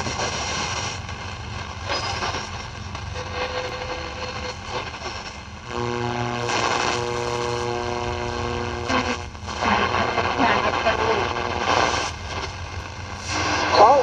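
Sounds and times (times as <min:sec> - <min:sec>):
radio static and hiss: 0:00.0 - 0:14.0
steady buzzing tone: 0:00.0 - 0:14.0.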